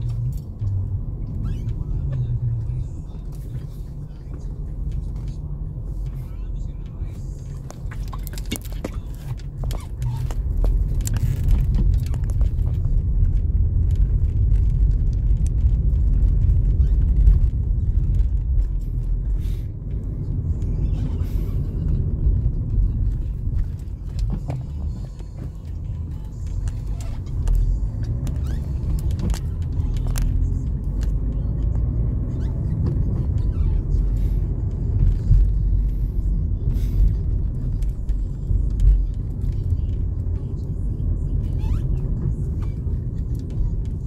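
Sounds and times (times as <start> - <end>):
road and engine rumble in car: 0.0 - 44.0.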